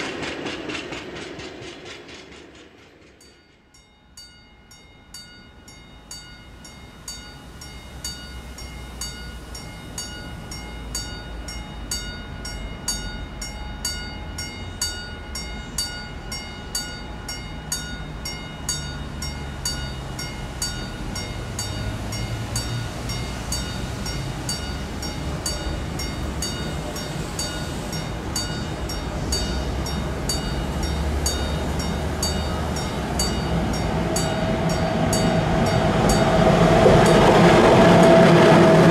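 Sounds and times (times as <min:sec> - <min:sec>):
electric train approaching: 0:00.0 - 0:38.9
level crossing warning bell: 0:03.6 - 0:37.3.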